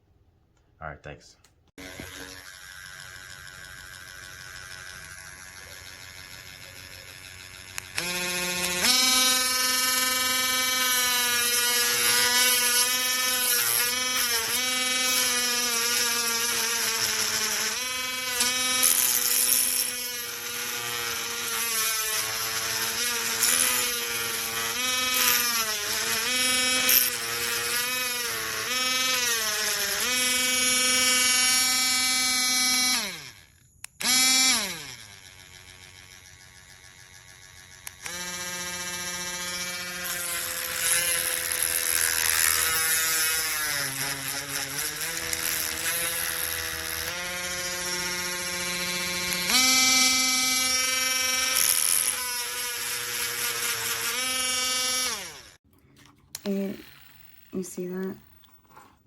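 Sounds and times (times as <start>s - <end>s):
rotary tool motor whining: 1.8s - 58.9s.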